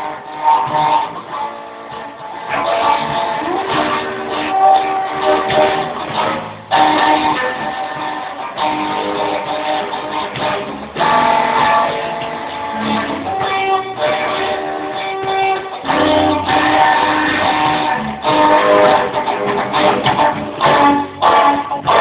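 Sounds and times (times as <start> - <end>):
guitar strumming chords: 0.0 - 22.0.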